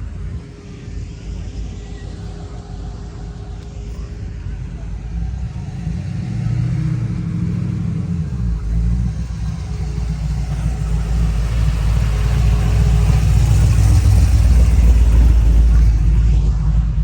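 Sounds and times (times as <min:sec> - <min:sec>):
car engine rumbling: 0:02.8 - 0:17.0.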